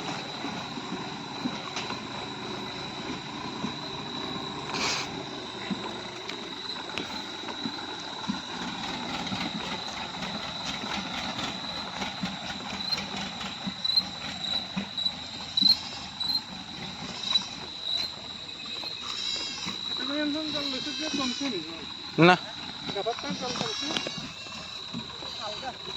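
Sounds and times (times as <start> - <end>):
clanks and rattles: 0.0 - 25.9
tractor engine running: 0.0 - 25.9.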